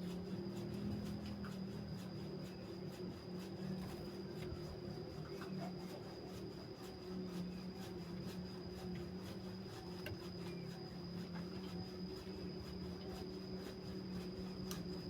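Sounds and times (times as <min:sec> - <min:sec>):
faint high whine: 0:00.0 - 0:15.0
faint scattered ticks: 0:00.0 - 0:15.0
steady low hum: 0:00.0 - 0:15.0.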